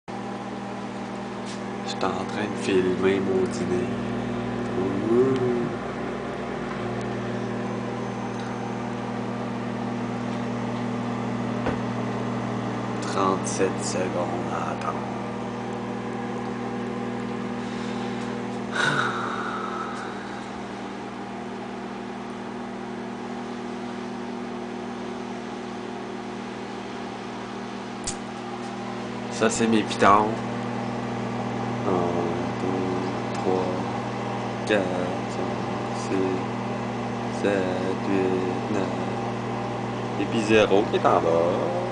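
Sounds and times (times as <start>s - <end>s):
microwave oven humming: 0.1s - 41.9s.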